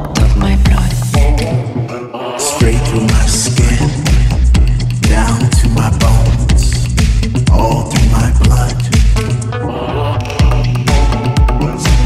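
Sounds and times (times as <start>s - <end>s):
electro lounge music: 0.0s - 12.0s.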